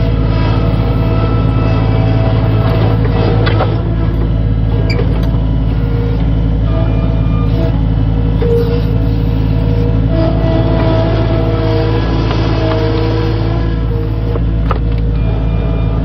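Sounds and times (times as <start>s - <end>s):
high-pitched whines: 0.0s - 16.0s
skid steer engine running: 0.0s - 16.0s.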